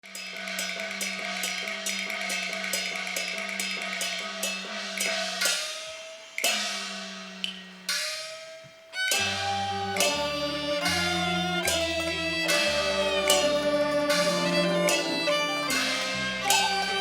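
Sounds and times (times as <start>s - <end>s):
fast percussion strikes: 0.0s - 17.0s.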